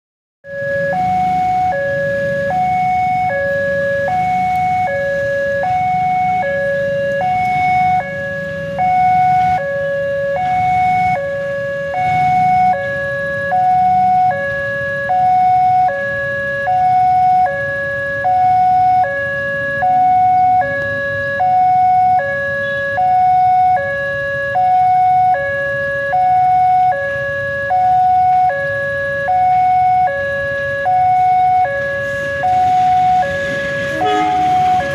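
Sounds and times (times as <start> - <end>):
two-tone level crossing alarm: 0.4 - 34.9.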